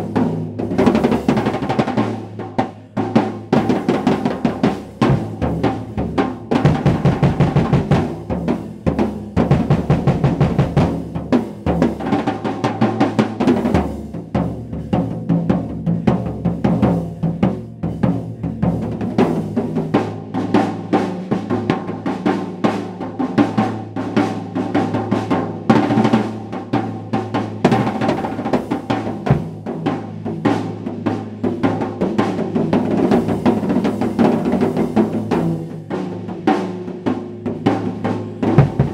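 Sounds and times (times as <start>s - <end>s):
drums played with bare hands: 0.0s - 38.9s.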